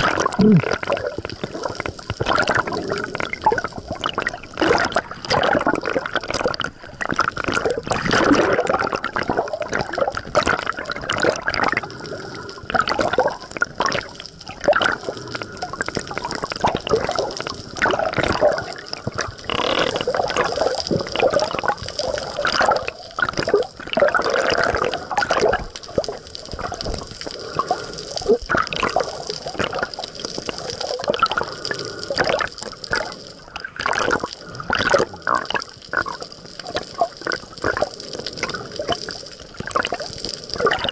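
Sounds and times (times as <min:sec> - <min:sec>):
water sloshing and gurgling: 0:00.0 - 0:40.9.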